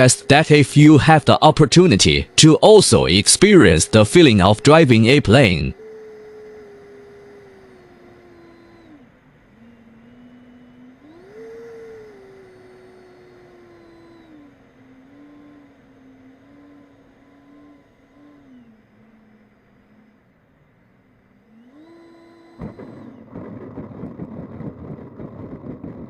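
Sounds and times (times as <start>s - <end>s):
model plane motor and propeller: 0.0s - 26.0s.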